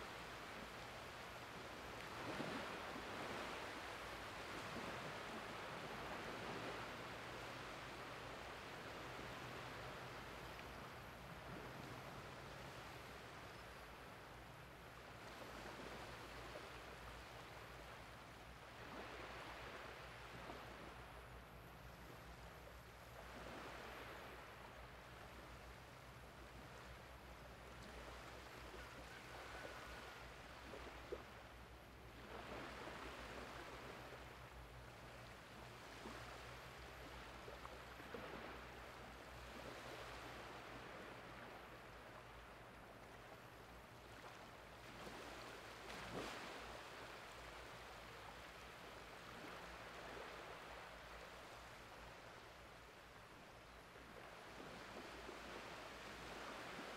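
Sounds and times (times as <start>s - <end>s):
small waves washing over sand: 0.0s - 56.9s.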